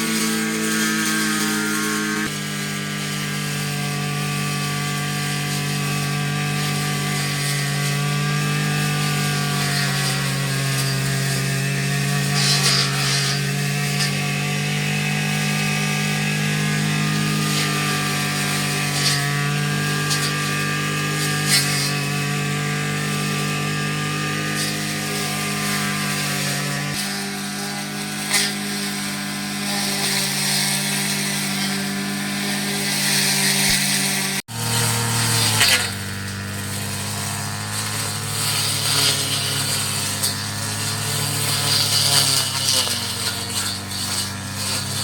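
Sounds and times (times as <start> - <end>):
grass trimmer engine running: 0.0 - 45.0.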